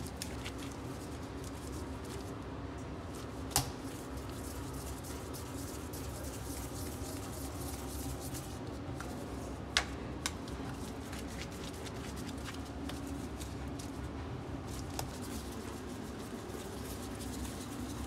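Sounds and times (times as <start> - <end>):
hands rubbing dough: 0.0 - 18.0
steady low hum: 0.0 - 18.0.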